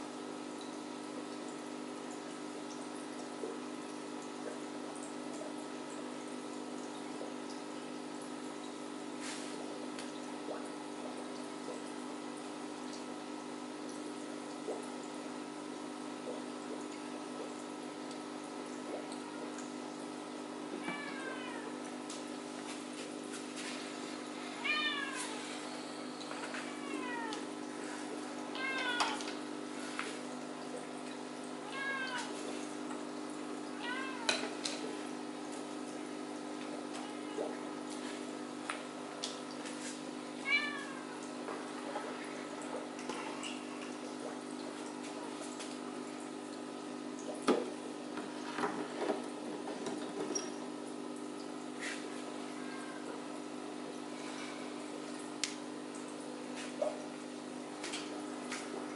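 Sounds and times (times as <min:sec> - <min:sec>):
aquarium pump humming: 0:00.0 - 0:58.9
water trickling: 0:00.0 - 0:58.9.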